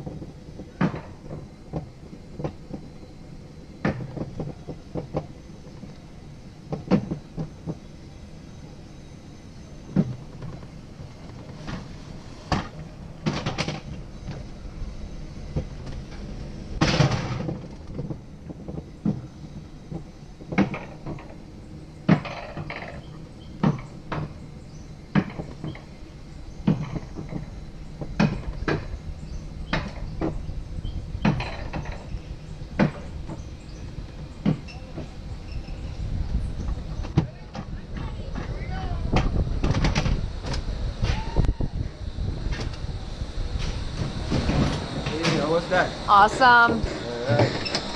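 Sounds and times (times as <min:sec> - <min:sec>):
sharp clack of rail track: 0:00.0 - 0:02.9, 0:03.8 - 0:07.9, 0:09.9 - 0:14.5, 0:15.5 - 0:24.4, 0:25.1 - 0:26.0, 0:26.6 - 0:30.5, 0:31.2 - 0:41.6, 0:42.4 - 0:47.9
bobsled car rumbling on rails: 0:00.0 - 0:47.9.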